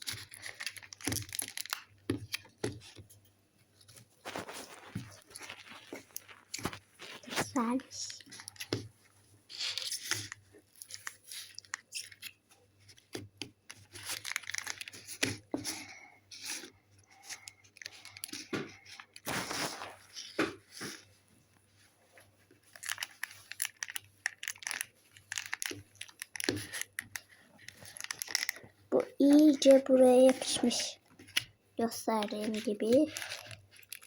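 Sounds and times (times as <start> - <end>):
slime crackling and squelching: 0.0 - 3.0, 3.8 - 21.0, 22.6 - 34.0.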